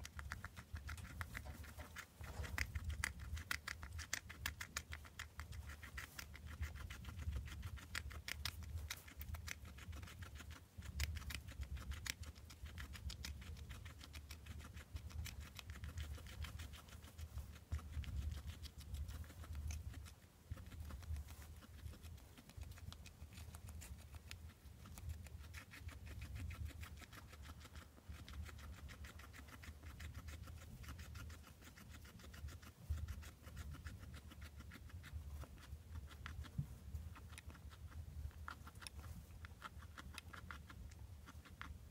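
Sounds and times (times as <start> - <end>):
guinea pig chewing wetly: 0.0 - 41.9.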